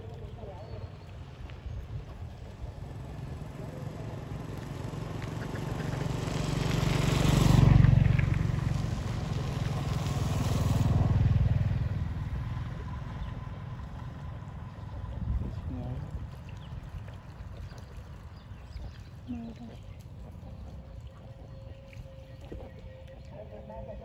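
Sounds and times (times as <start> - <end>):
vehicle engine passing by: 2.3 - 24.0.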